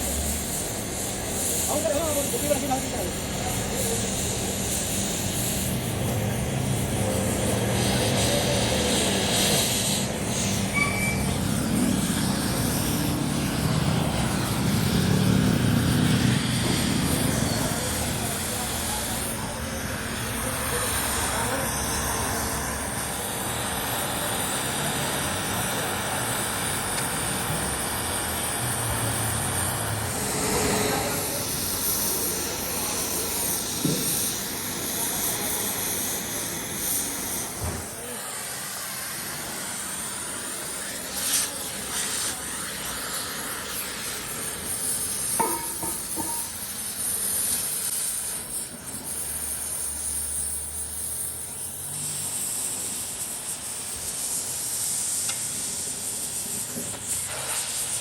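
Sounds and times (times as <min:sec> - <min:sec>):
machine hissing din: 0:00.0 - 0:58.0.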